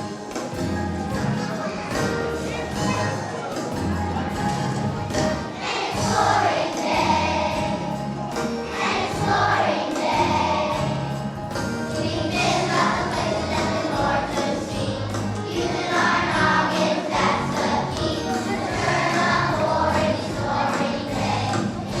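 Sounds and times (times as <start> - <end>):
children's choir singing: 0.0 - 22.0
instrumental accompaniment with bass: 0.0 - 22.0.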